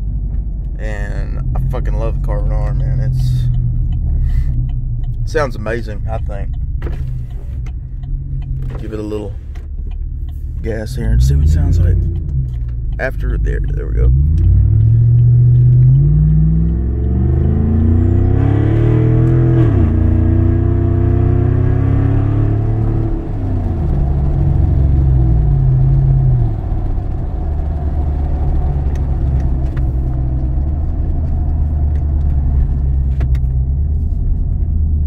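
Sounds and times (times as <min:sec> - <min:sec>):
pickup truck engine accelerating: 0:00.8 - 0:35.0.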